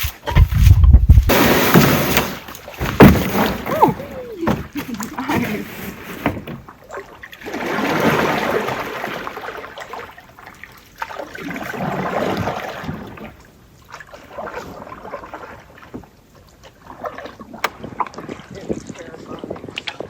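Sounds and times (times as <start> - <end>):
canoe paddle swishing water: 0.0 - 20.0.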